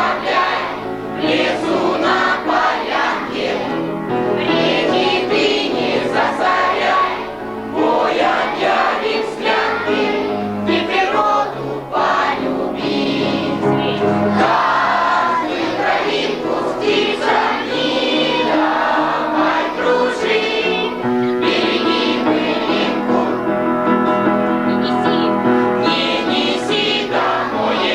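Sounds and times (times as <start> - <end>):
group of voices singing: 0.0 - 27.9
instrumental accompaniment: 0.0 - 27.9.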